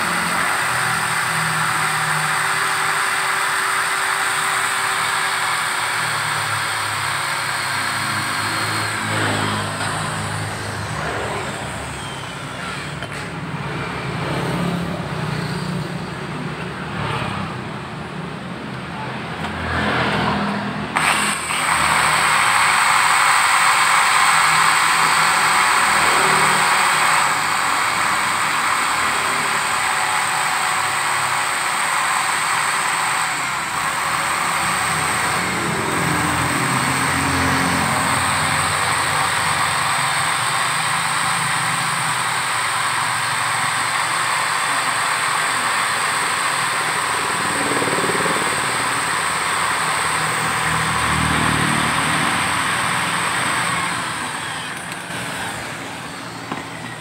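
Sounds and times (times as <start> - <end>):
power drill whirring: 0.0 - 17.8, 20.3 - 57.0.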